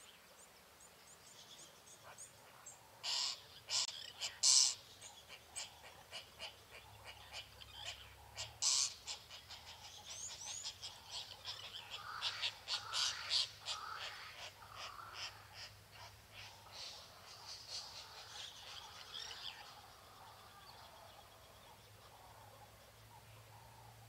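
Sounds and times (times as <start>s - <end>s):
birds chirping and calling: 1.1s - 24.0s.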